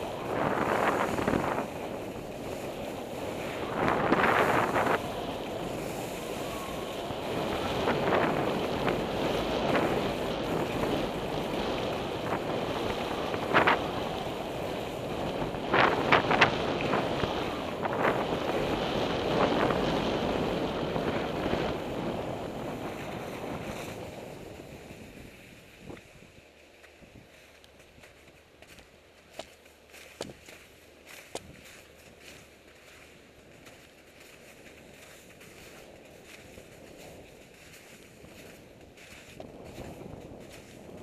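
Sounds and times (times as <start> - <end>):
skis scraping on slushy snow: 0.0 - 41.0
wind on microphone: 0.0 - 41.0.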